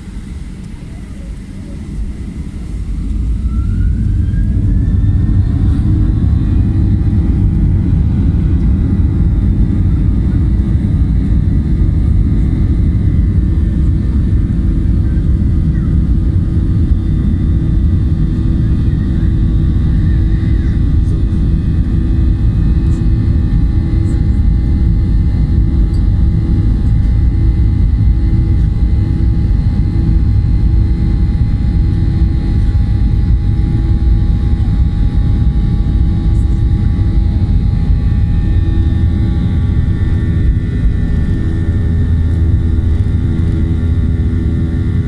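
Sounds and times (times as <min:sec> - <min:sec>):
jet engines at takeoff power: 0:00.0 - 0:45.0.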